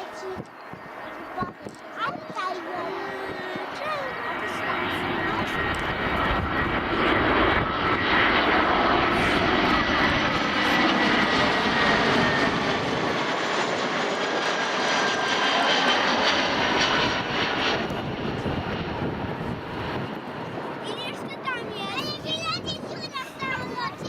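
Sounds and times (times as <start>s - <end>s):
jet airliner passing: 0.0s - 24.0s.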